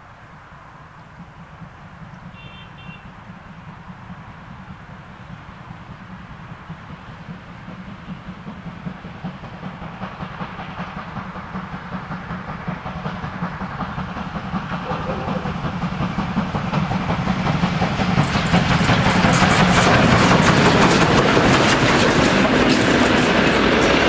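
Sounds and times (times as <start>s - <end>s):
steam locomotive exhaust chuffing: 0.3s - 24.0s
wheels clattering on rails: 3.0s - 24.0s.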